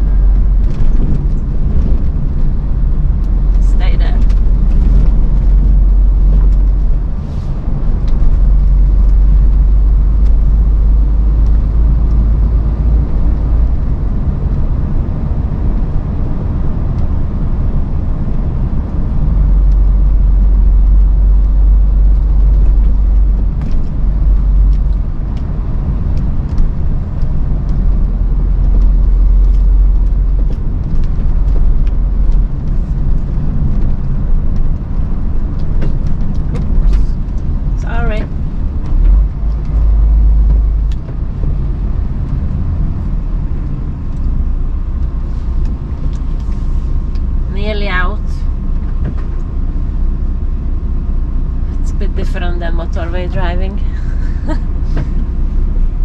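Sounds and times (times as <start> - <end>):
lorry diesel engine rumble: 0.0 - 56.0.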